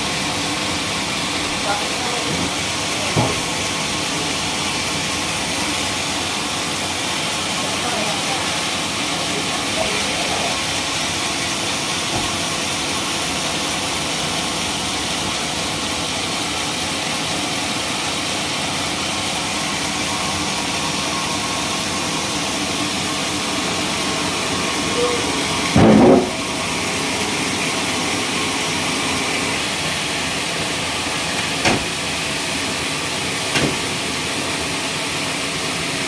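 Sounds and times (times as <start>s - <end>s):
sawmill machine running: 0.0s - 36.0s.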